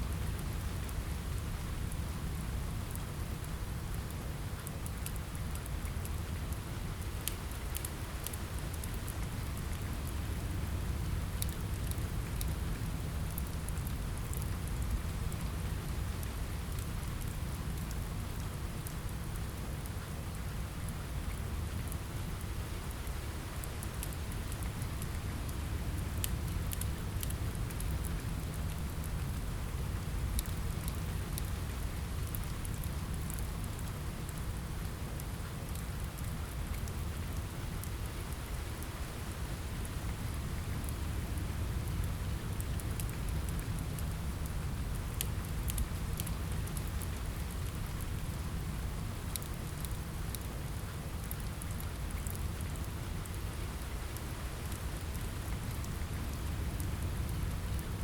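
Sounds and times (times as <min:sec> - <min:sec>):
rain on a window: 0:00.0 - 0:58.0
wood fire crackling: 0:03.9 - 0:58.0.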